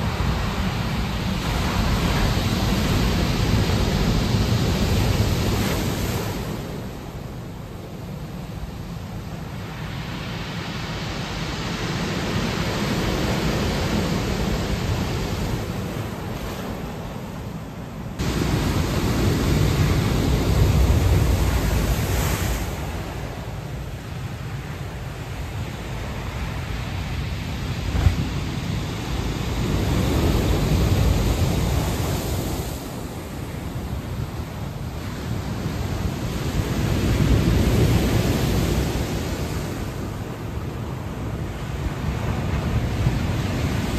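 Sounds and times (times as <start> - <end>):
sea waves surging: 0.0 - 43.9
wind rumbling on microphone: 0.0 - 43.9.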